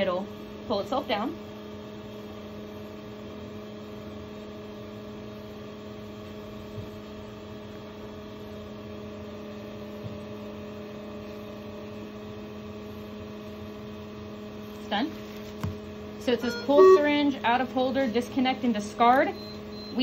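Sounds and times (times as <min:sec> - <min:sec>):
syringe pump motor hum: 0:00.0 - 0:20.0.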